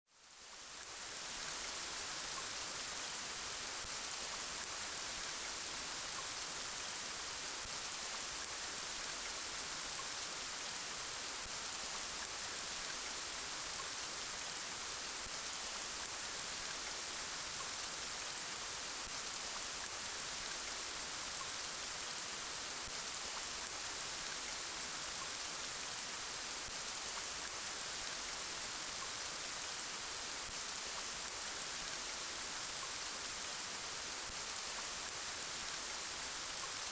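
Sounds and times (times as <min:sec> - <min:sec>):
steady rain hiss: 0:00.1 - 0:36.9.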